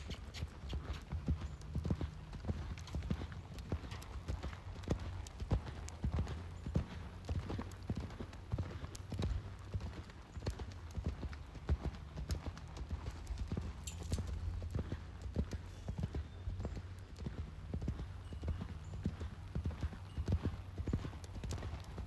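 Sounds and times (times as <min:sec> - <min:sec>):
horse hoofbeats on sand: 0:00.0 - 0:22.0.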